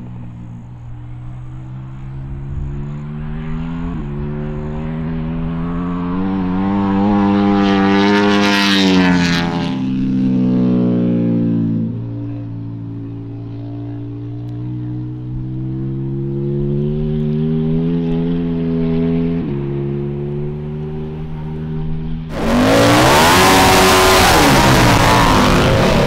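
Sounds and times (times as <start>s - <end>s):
motorcycle engine at high revs passing: 0.0s - 26.0s.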